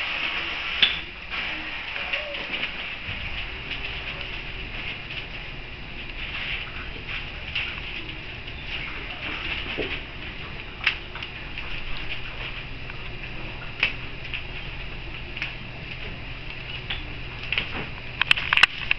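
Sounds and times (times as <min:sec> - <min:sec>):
faint steady hum: 0:00.0 - 0:18.9
paper rustling and pattering: 0:01.3 - 0:18.9.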